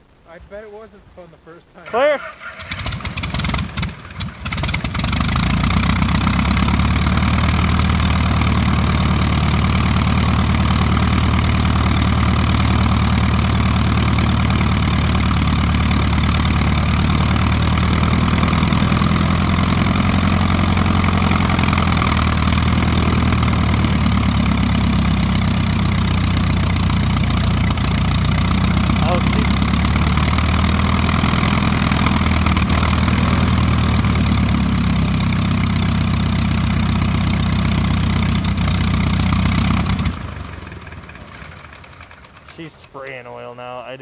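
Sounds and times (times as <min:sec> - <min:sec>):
aircraft engine running: 0:02.2 - 0:43.9.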